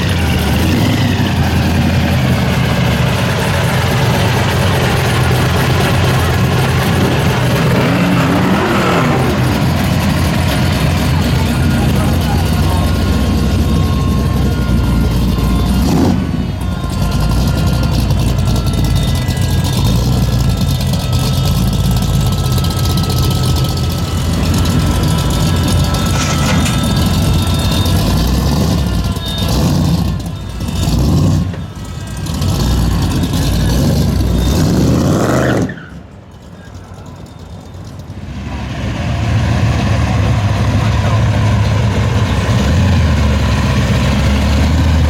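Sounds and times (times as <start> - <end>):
car engine running loudly: 0.0 - 45.0.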